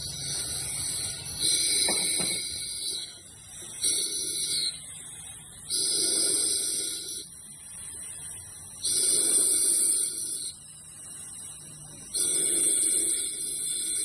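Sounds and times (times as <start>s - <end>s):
diaphragm pump exhaust hiss: 0.0s - 14.0s.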